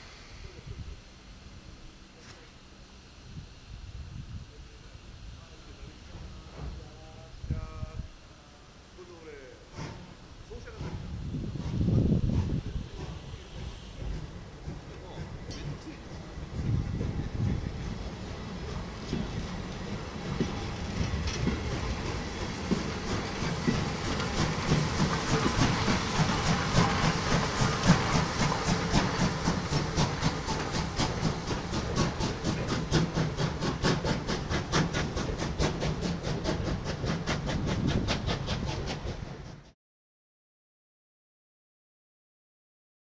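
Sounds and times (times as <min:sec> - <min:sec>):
steam hiss: 0:00.0 - 0:39.6
steam locomotive exhaust beating: 0:00.0 - 0:39.8
wheels rumbling on rail: 0:03.3 - 0:39.7.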